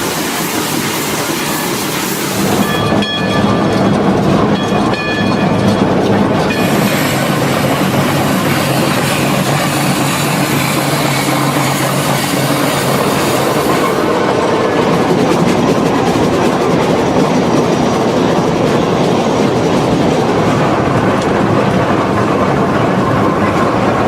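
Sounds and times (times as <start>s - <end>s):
train rumble and rattle: 0.0s - 24.0s.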